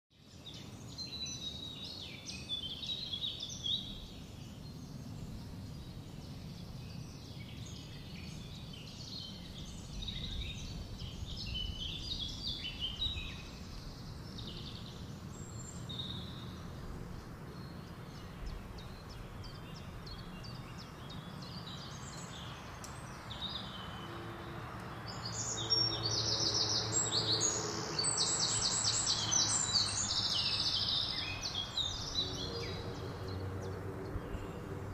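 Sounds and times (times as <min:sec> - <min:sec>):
low background noise: 0:00.2 - 0:34.9
birds chirping: 0:00.4 - 0:34.9.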